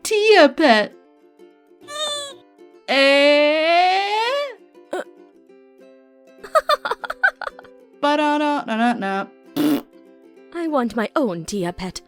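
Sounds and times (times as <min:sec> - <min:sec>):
ukulele background music: 0:00.0 - 0:12.0.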